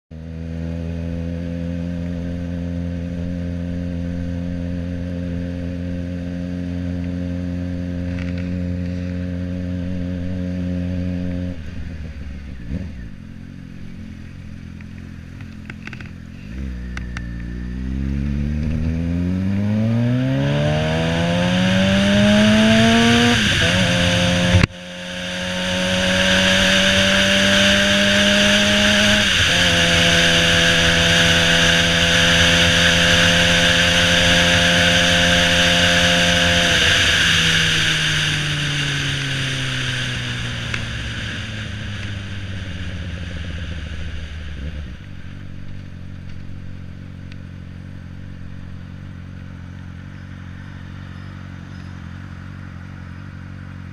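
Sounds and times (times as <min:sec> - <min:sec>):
motorcycle engine revving: 0:00.1 - 0:53.9.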